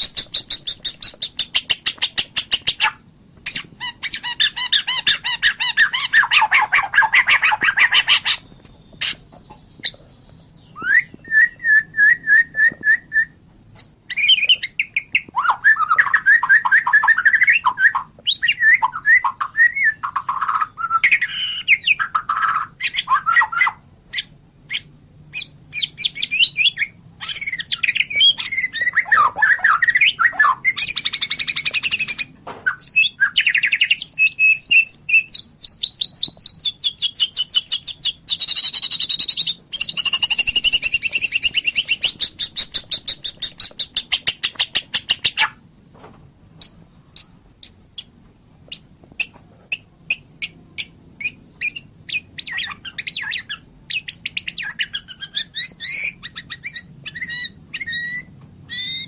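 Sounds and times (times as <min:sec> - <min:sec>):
bird singing trills and whistles: 0:00.0 - 0:45.8, 0:46.6 - 0:48.1, 0:48.7 - 0:59.0.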